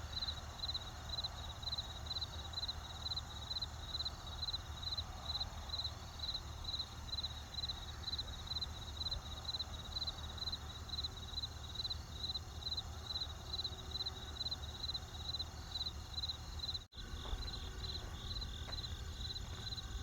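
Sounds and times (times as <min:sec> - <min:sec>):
campfire noise: 0:00.0 - 0:20.0
crickets chirping: 0:00.0 - 0:20.0.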